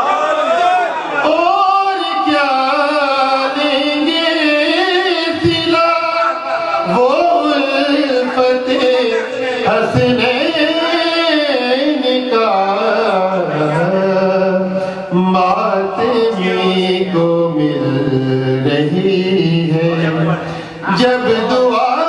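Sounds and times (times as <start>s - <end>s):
man singing into a microphone: 1.2s - 22.0s.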